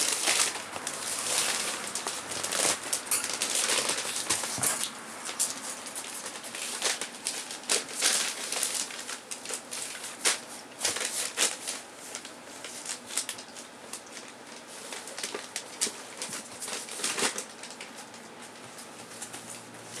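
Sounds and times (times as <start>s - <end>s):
newspaper rustling: 0.0s - 20.0s.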